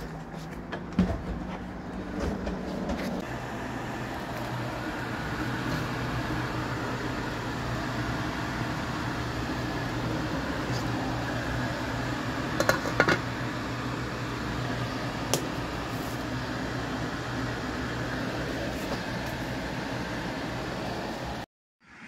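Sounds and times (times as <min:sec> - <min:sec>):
fan humming: 0:00.0 - 0:21.4.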